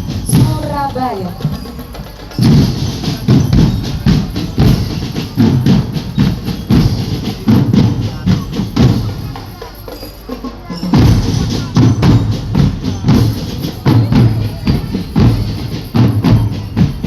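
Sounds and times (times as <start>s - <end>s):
marching drum band playing: 0.0s - 17.0s.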